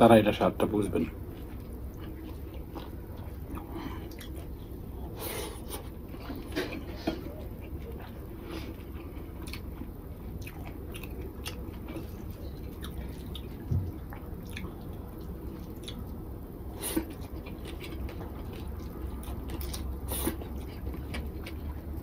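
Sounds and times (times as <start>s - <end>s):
person chewing: 1.2s - 22.0s.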